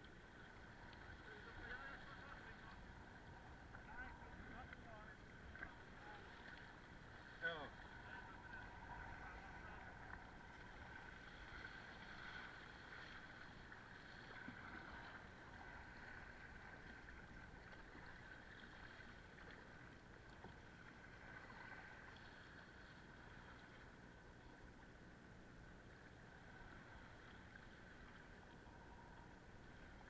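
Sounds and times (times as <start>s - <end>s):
faint wind and water hiss: 0.0s - 30.0s.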